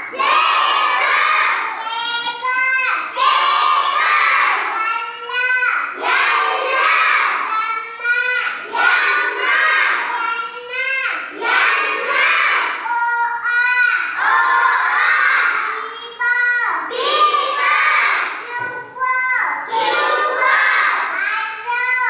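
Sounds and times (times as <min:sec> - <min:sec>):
child reading words in sing-song: 0:00.0 - 0:22.0.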